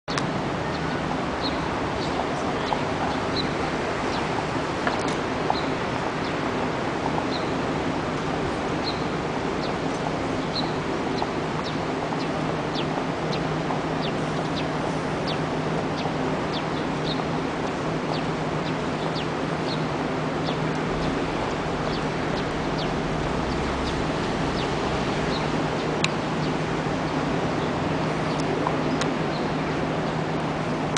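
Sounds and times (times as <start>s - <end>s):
traffic noise: 0.1s - 30.9s
low hum: 0.6s - 30.9s.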